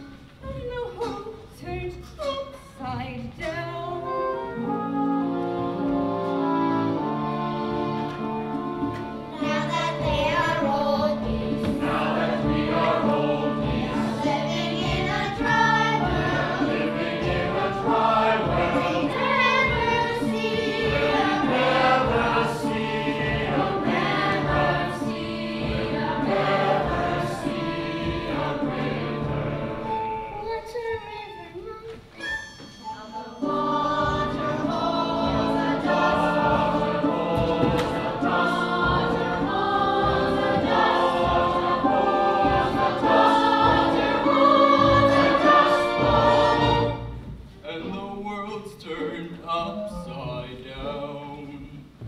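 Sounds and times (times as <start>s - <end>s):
instrumental accompaniment: 2.0s - 52.0s
opera chorus singing: 4.0s - 31.8s, 32.8s - 52.0s.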